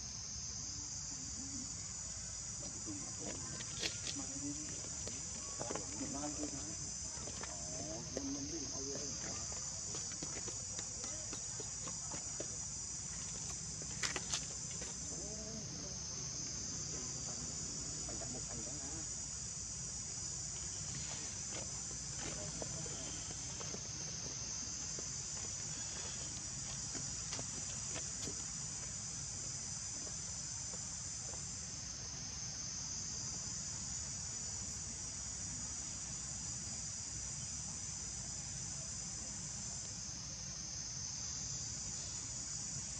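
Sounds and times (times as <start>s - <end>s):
insect chorus: 0.0s - 42.9s.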